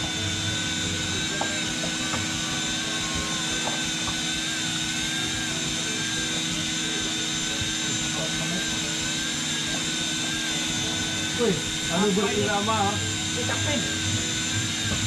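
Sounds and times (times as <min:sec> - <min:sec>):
boat engine droning: 0:00.0 - 0:15.0
high wavering whine: 0:00.0 - 0:15.0.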